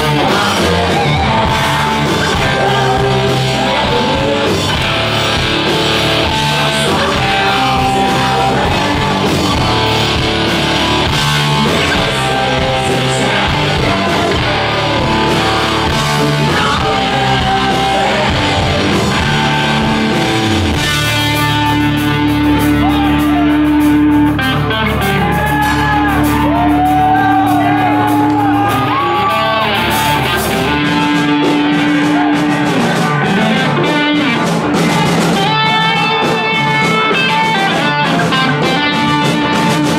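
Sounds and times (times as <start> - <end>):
rock band playing live: 0.0 - 39.9
sustained electric guitar notes: 0.0 - 39.9.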